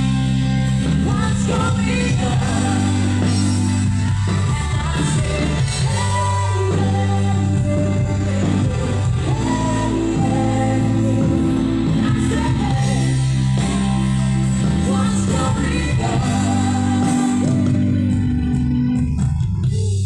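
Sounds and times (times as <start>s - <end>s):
bass and instruments: 0.0s - 20.0s
person singing: 0.9s - 18.4s.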